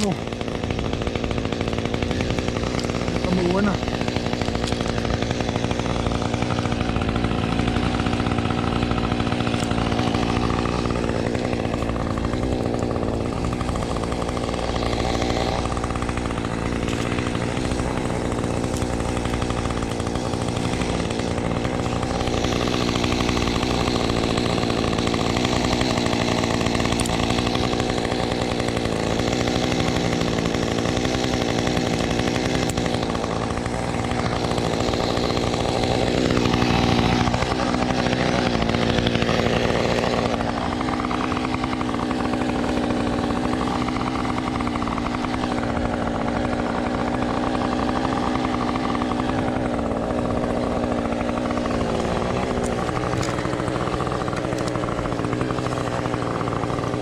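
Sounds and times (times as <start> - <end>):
chainsaw running: 0.0 - 57.0.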